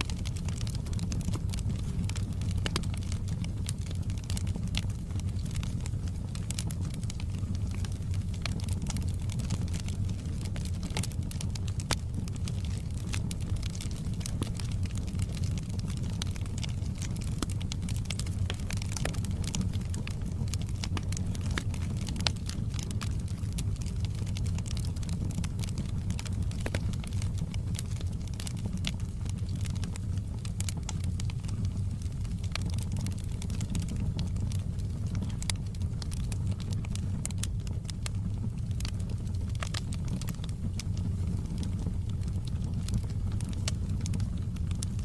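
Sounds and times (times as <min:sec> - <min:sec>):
logs crackling and popping: 0:00.0 - 0:45.0
low rumble of flame: 0:00.0 - 0:45.0
wood fire burning: 0:00.0 - 0:45.0.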